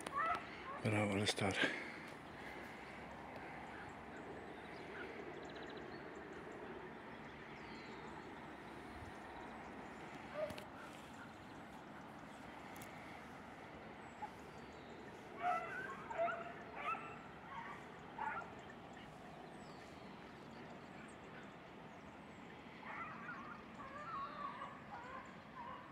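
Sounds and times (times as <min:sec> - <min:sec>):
dogs baying: 0:00.0 - 0:05.4, 0:09.4 - 0:21.6, 0:22.8 - 0:25.9.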